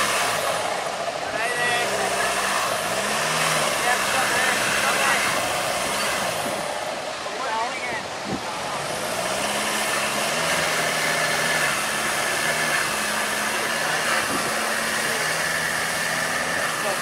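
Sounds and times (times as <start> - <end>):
car engine under load: 0.0 - 17.0
wheels spinning in sand: 0.0 - 17.0.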